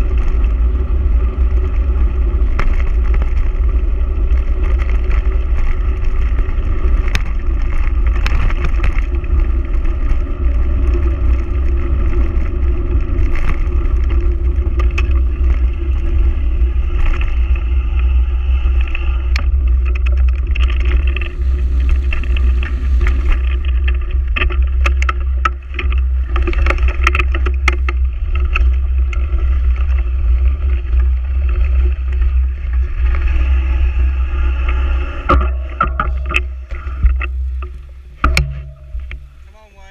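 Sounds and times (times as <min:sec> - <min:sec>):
bike rattling and knocking: 0:00.0 - 0:39.9
tyres on gravel: 0:00.0 - 0:39.9
wind rumble on microphone: 0:00.0 - 0:39.9.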